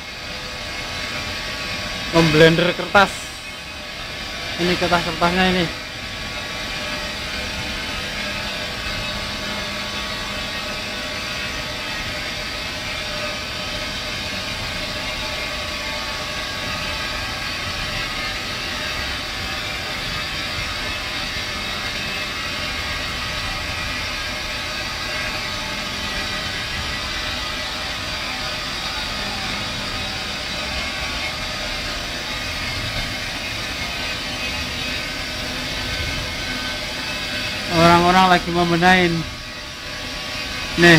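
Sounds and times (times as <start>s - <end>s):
machinery rushing drone: 0.0s - 40.9s.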